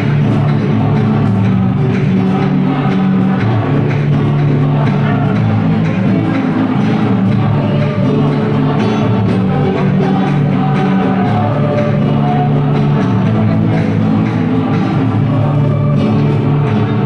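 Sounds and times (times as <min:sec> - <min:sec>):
choir singing a pop song: 0:00.0 - 0:17.0
instrumental accompaniment: 0:00.0 - 0:17.0.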